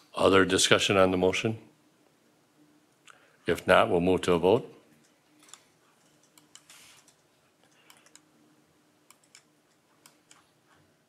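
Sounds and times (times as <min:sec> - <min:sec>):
faint steady hum: 0:00.0 - 0:11.0
soft hiss: 0:00.0 - 0:11.0.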